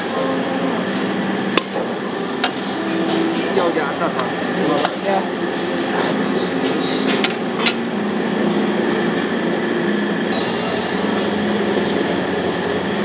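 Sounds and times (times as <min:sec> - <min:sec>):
stove and ventilation roar: 0:00.0 - 0:13.0.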